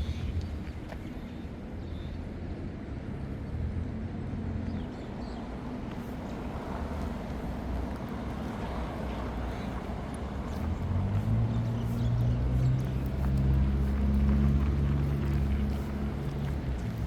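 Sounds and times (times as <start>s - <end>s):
large vehicle engine hum: 0.0s - 17.0s
traffic noise: 0.0s - 17.0s.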